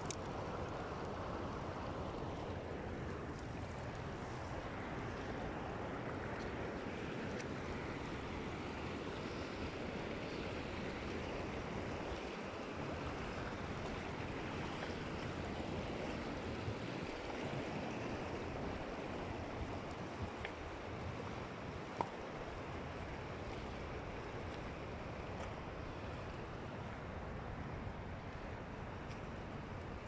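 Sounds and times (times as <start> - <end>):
river water rushing over rocks: 0.0 - 30.0.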